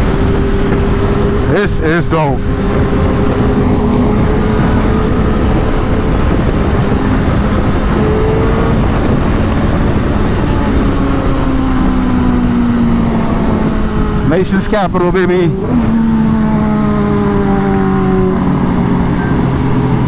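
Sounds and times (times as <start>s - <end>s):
motorcycle engines cruising: 0.0s - 20.0s
wind rush over microphone: 0.0s - 20.0s.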